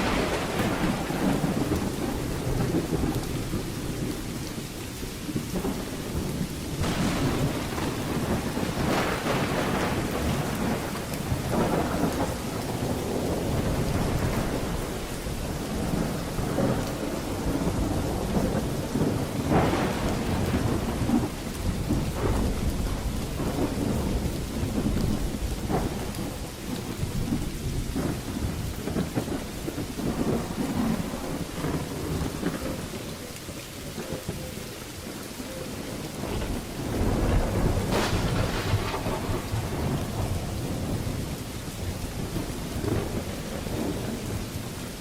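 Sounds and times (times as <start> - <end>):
rolling thunder: 0.0 - 45.0
steady rain falling: 0.0 - 45.0.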